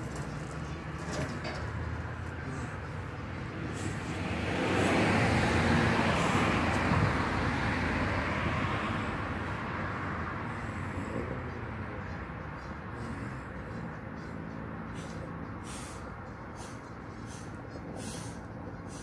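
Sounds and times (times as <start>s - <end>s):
vehicle driving past: 0.0s - 19.0s.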